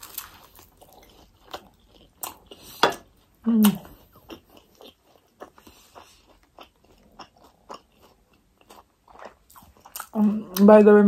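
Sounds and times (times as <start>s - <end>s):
chewing with crunches: 0.0s - 10.8s.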